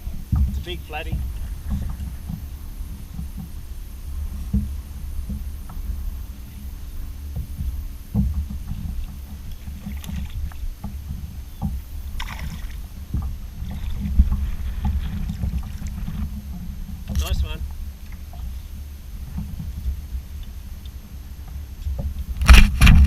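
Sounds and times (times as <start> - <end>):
knocks and thumps on a boat: 0.0 - 23.0
low rumble: 0.0 - 23.0.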